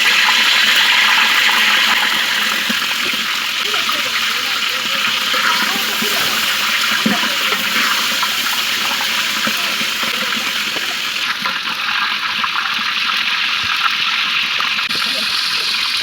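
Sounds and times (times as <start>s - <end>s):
tap water running: 0.0s - 16.0s.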